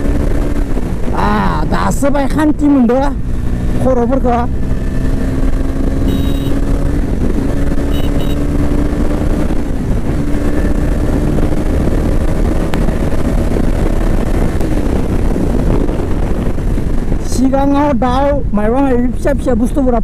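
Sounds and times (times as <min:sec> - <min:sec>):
motorcycle engine cruising: 0:00.0 - 0:17.4
wind rumbling on microphone: 0:00.0 - 0:20.0.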